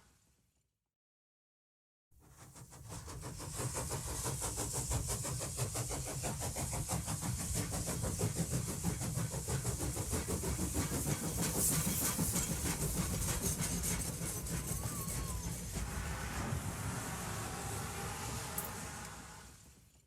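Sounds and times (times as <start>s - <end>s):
steam hissing: 2.2s - 19.9s
steam locomotive chuffing: 2.2s - 20.0s.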